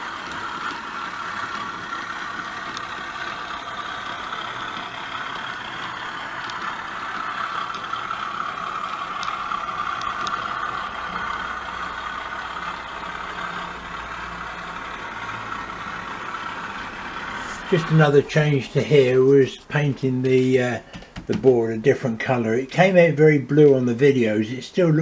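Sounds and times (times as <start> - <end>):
model locomotive engine idling: 0.0 - 25.0.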